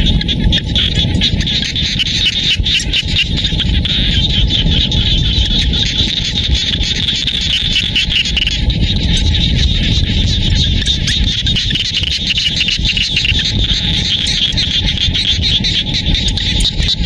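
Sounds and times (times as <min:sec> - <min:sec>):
frogs chorus calling: 0:00.0 - 0:17.0
wind rumble on microphone: 0:00.0 - 0:17.0.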